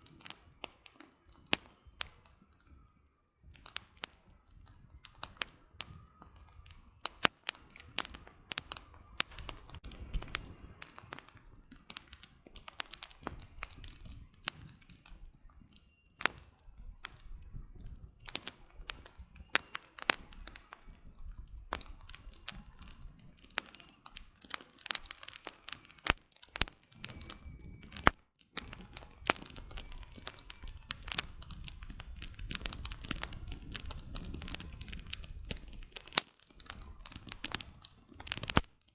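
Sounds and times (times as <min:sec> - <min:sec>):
low hiss of flame: 0:00.0 - 0:38.9
wood fire crackling: 0:00.0 - 0:38.9.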